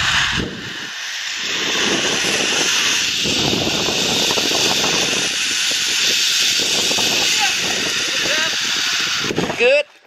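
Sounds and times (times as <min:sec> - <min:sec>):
pulleys whirring along steel cable: 0:00.0 - 0:09.9
wind buffeting microphone: 0:00.0 - 0:10.0.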